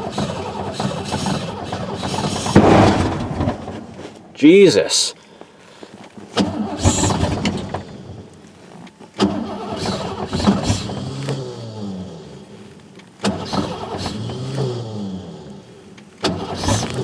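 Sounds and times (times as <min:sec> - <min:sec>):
truck engine cranking: 0:00.0 - 0:04.2, 0:06.1 - 0:17.0.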